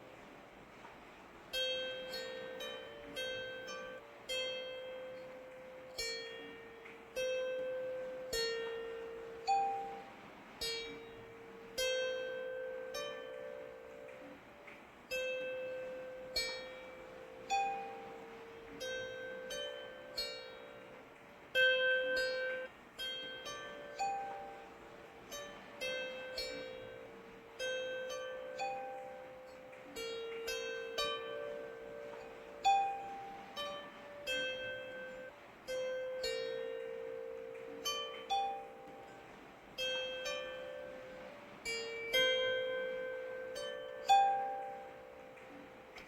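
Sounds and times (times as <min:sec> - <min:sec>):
faint rain hiss: 0:00.0 - 0:46.0
plucked strings melody: 0:01.5 - 0:46.0.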